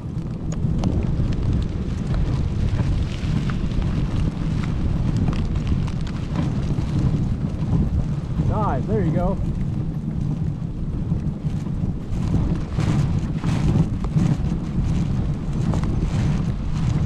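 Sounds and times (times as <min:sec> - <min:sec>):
sled clicks and rattles: 0:00.0 - 0:17.0
sled runners rumbling on snow: 0:00.0 - 0:17.0
wind buffeting camera: 0:00.0 - 0:17.0.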